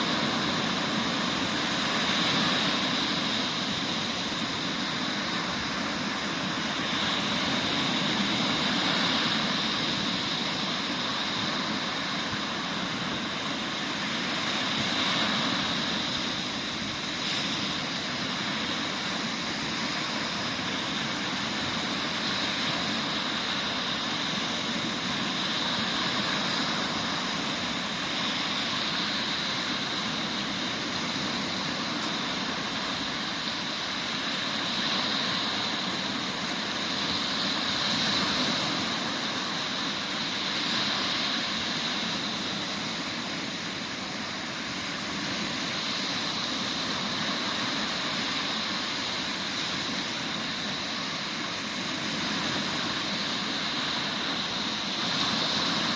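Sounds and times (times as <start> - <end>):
sea waves on beach: 0.0 - 55.9.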